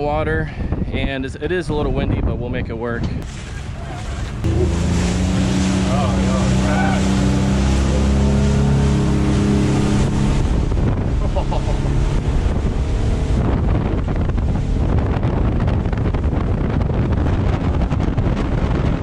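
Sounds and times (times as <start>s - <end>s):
wind buffeting microphone: 0.0s - 19.0s
outboard motor droning: 3.2s - 19.0s
rushing water: 3.2s - 19.0s.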